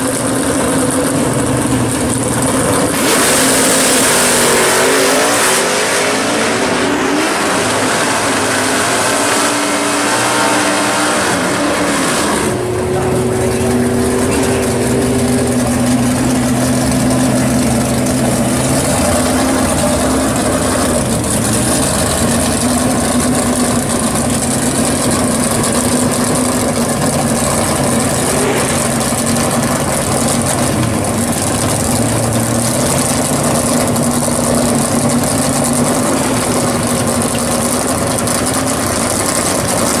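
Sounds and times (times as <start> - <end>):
race car engines idling: 0.0 - 40.0
race cars accelerating: 0.0 - 40.0.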